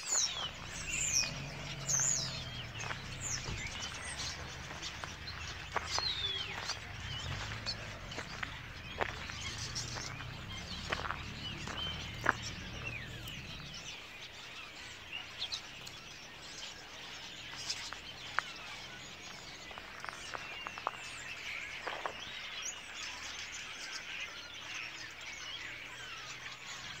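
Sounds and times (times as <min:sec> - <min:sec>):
flock of birds chirping: 0:00.0 - 0:27.0.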